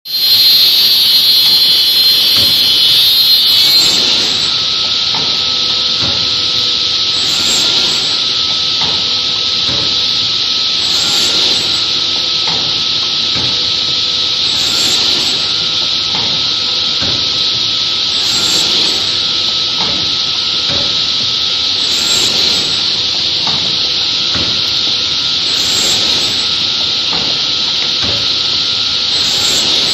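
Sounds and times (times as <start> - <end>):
woodworking saw machine running: 0.1 - 29.9.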